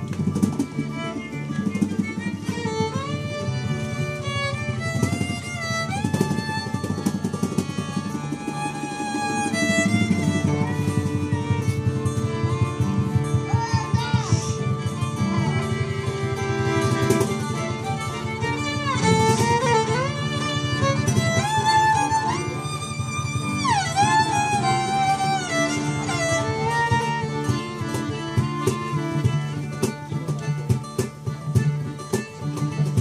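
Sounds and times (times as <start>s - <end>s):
accordion: 0.0s - 33.0s
fiddle melody: 0.0s - 33.0s
strummed acoustic guitars: 0.0s - 33.0s.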